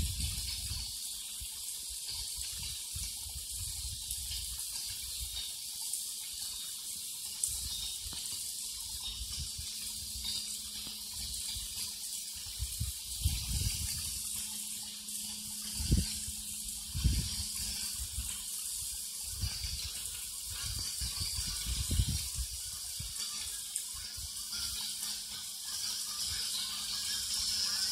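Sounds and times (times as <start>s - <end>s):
waterfall splashing into pond: 0.0s - 27.9s.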